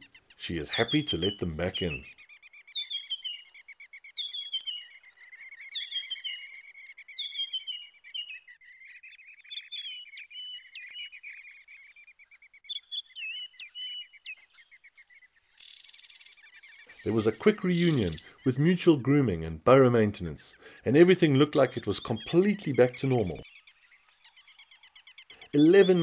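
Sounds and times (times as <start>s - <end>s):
high chirping calls: 0.0s - 26.0s.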